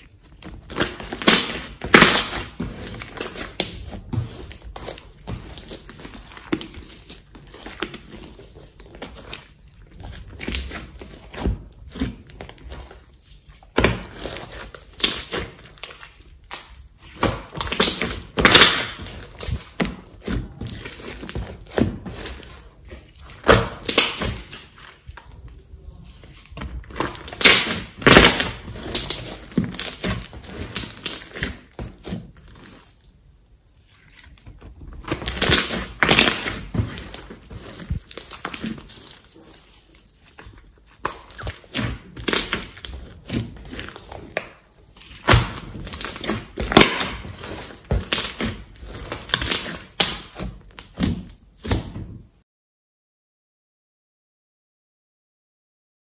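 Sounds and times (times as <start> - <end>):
slime squelching: 0.0 - 52.4.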